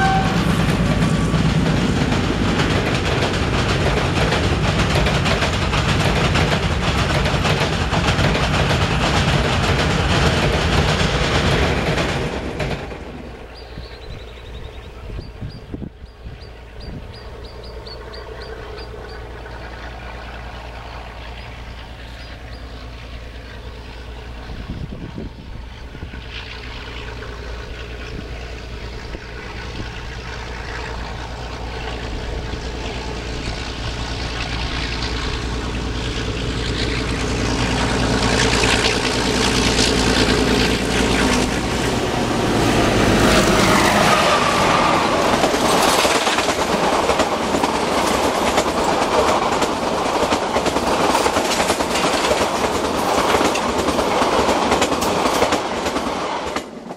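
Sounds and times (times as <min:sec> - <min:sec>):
diesel locomotive engine: 0:00.0 - 0:56.9
train wheels clattering on track: 0:00.0 - 0:56.9.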